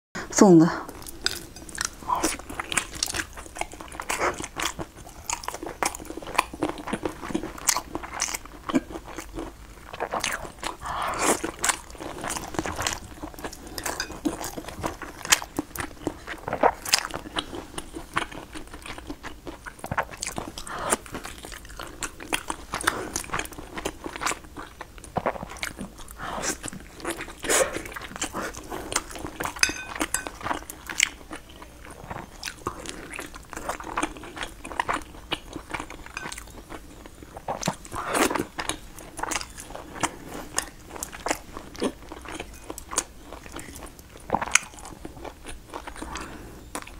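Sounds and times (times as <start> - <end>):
person chewing food: 0.9 - 46.9.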